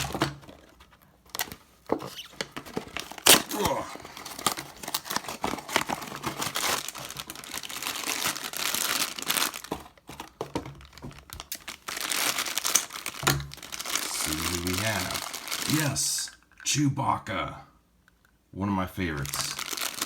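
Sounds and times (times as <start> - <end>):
cardboard packaging tearing: 0.0 - 16.1, 19.2 - 20.0.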